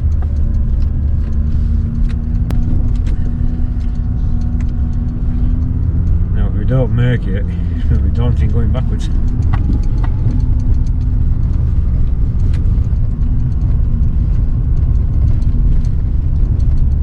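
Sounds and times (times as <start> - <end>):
car engine rumbling: 0.0 - 17.0
faint clicks and knocks: 0.0 - 17.0.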